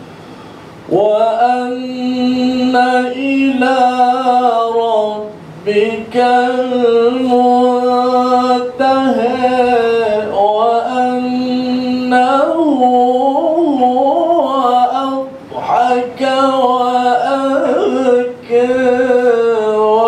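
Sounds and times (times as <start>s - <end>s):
man reciting melodically into microphone: 0.9s - 20.0s.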